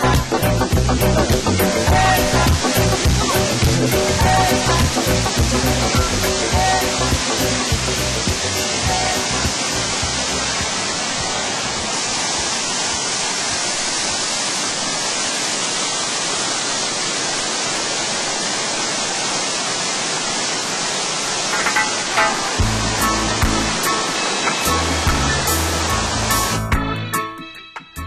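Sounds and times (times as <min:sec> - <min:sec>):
waterfall rushing over rocks: 0:00.0 - 0:26.6.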